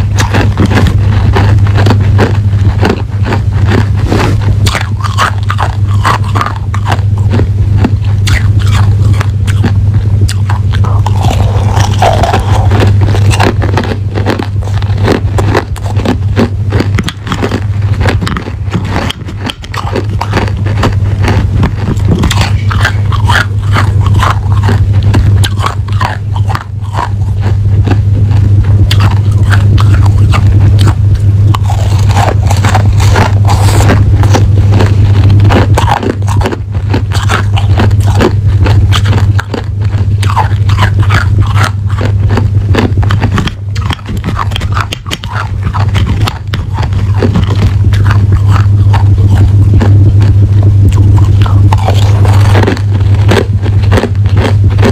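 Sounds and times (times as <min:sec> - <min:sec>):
crushed ice being chewed: 0:00.0 - 0:54.9
steady low hum: 0:00.0 - 0:54.9.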